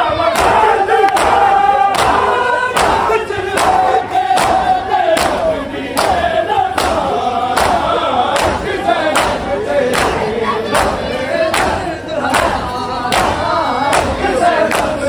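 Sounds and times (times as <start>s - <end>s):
men chanting rhythmically: 0.0s - 15.0s.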